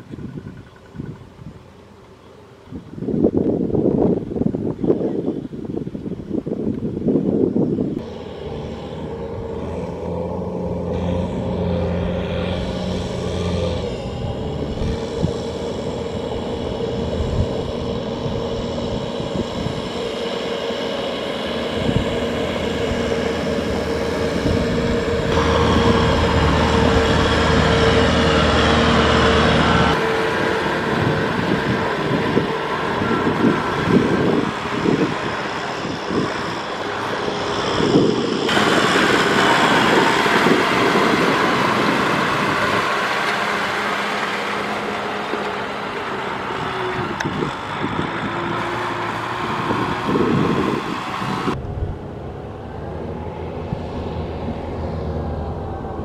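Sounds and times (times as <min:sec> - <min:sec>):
tractor diesel engine running: 0:07.6 - 0:56.0.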